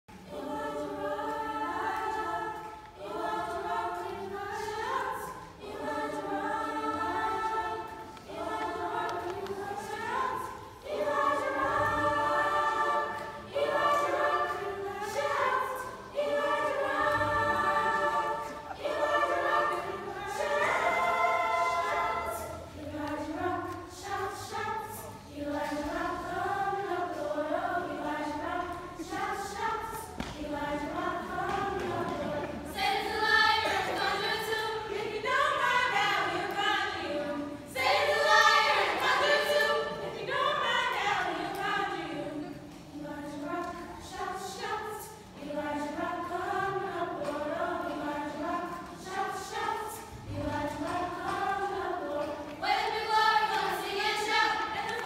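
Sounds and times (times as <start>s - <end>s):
children's choir singing: 0.1s - 55.0s.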